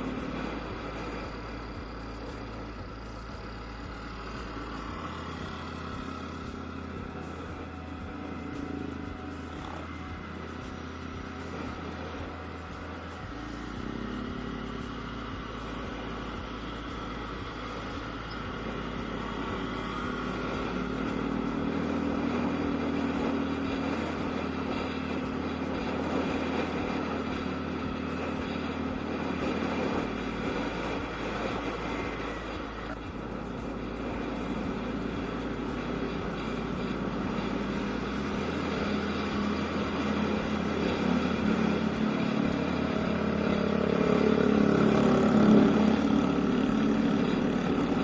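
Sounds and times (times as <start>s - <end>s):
scooter engine running: 0.0s - 48.0s.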